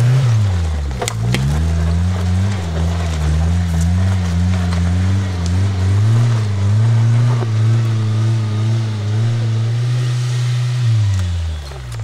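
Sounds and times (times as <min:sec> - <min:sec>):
car engine pulling under load: 0:00.0 - 0:12.0.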